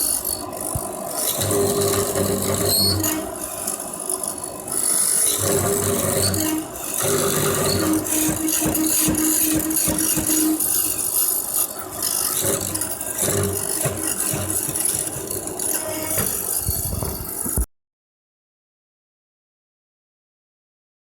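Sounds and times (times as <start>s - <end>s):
woodworking machinery humming: 0.0s - 17.6s.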